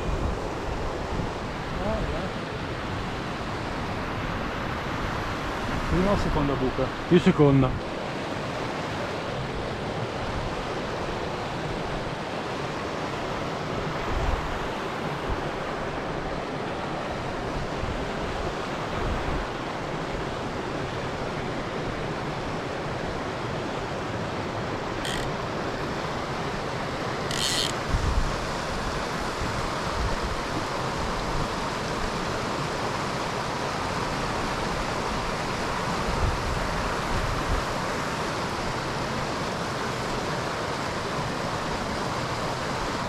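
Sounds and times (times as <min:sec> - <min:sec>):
mountain torrent rushing: 0:00.0 - 0:43.0.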